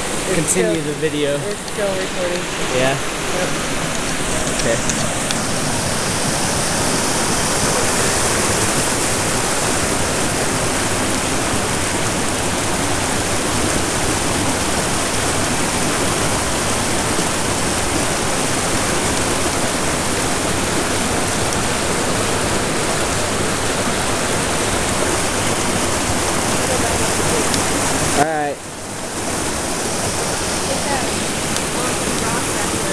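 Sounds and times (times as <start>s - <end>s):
creek rushing over rocks: 0.0s - 32.9s.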